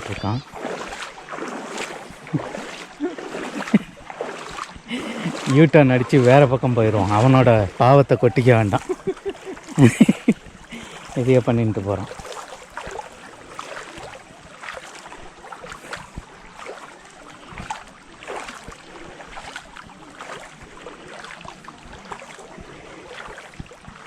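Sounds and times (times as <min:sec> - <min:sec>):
shallow river water splashing: 0:00.0 - 0:24.0.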